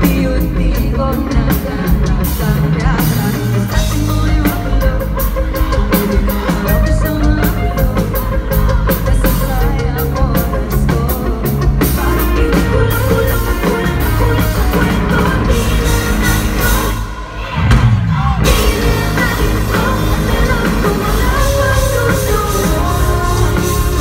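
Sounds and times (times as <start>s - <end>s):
woman singing: 0.0s - 17.4s, 18.2s - 24.0s
drum kit beat: 0.0s - 24.0s
electric guitar: 0.0s - 24.0s.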